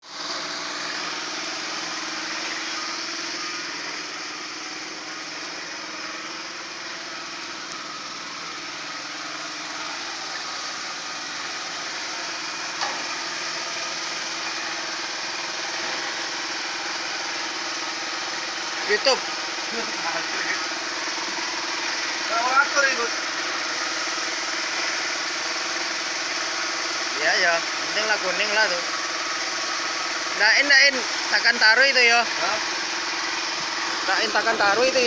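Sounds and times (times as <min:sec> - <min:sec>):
small machine hissing and humming: 0:00.0 - 0:35.0.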